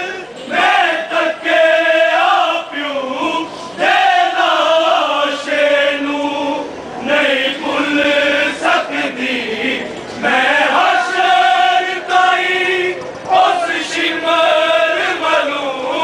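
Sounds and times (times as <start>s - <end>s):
men chanting a lament: 0.0s - 16.0s.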